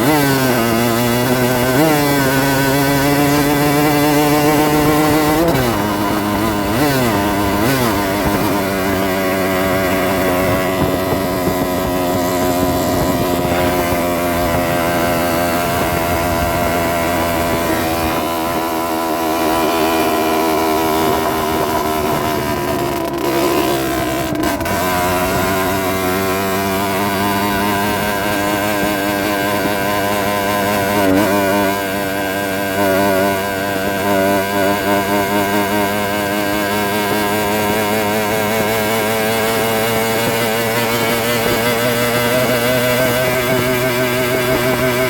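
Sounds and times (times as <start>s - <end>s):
two-stroke motorbike engine revving: 0.0s - 45.0s.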